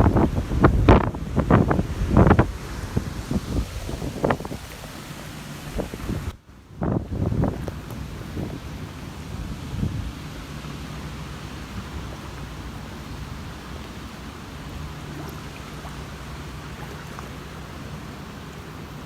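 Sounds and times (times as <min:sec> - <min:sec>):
hurricane wind: 0:00.0 - 0:19.0
low steady hum: 0:00.0 - 0:19.0
rain: 0:00.0 - 0:19.0.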